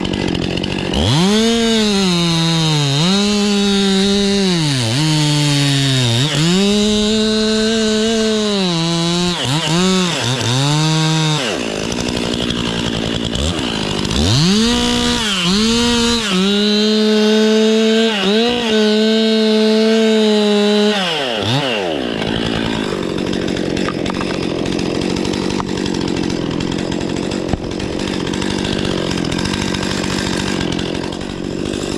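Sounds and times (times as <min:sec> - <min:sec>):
chainsaw cutting wood: 0:00.0 - 0:31.9.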